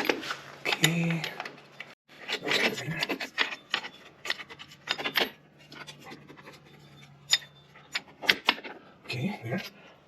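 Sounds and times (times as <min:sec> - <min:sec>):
metal brake parts clicking and scraping: 0:00.0 - 0:10.0.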